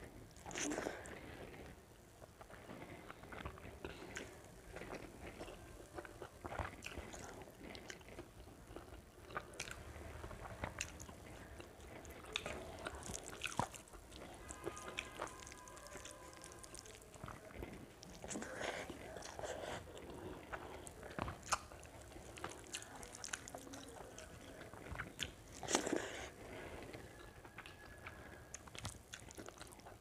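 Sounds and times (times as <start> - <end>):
person chewing food: 0.1 - 30.0.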